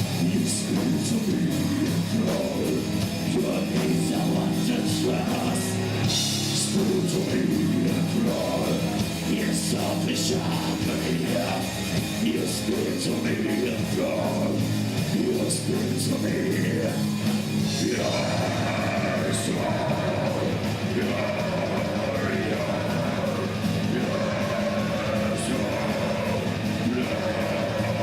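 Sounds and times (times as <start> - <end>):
heavy rock music: 0.0 - 28.0.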